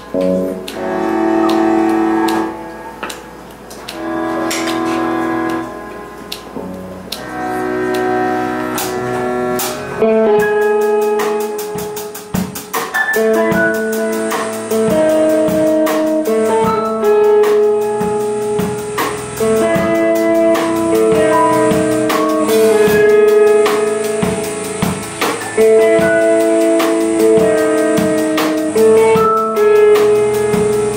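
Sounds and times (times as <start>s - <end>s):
drum kit beat: 0.0s - 30.9s
keyboard chords: 0.0s - 30.9s
live rock band playing: 0.0s - 30.9s.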